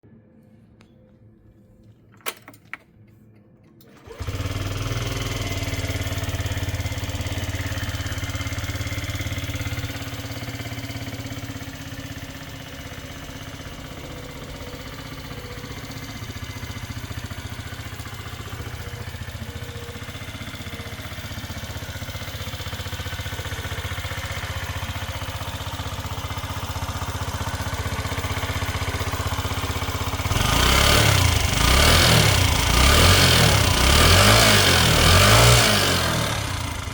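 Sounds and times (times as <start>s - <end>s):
scooter engine idling and revving: 3.8s - 36.9s.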